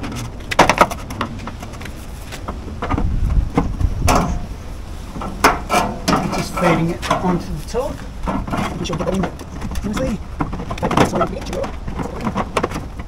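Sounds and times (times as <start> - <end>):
metal downpipe knocking and scraping: 0.0 - 13.0.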